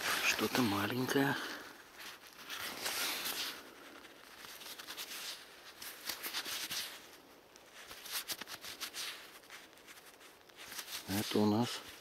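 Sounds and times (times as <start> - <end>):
soil rustling and crackling: 0.0 - 12.0.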